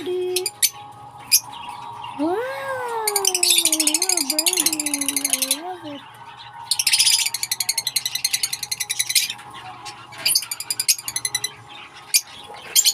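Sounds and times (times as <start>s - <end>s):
baby bird chirping: 0.0s - 12.9s.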